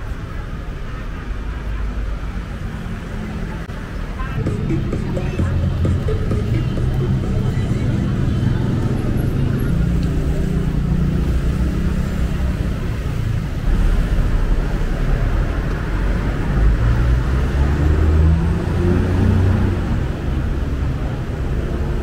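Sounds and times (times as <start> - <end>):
road traffic drone: 0.0 - 22.0.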